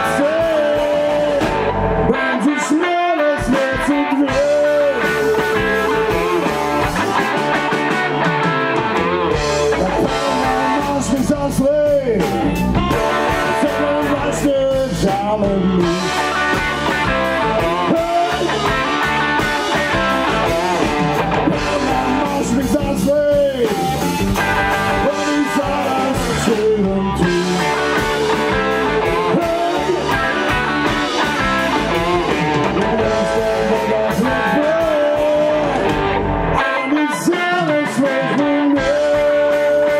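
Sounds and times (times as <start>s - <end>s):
electric blues band playing: 0.0s - 39.9s.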